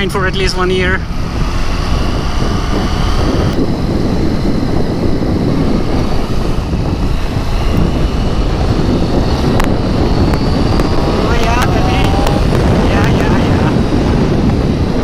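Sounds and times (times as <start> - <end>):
motorcycle engine drone: 0.0 - 15.0
wind rushing over microphone: 0.0 - 15.0.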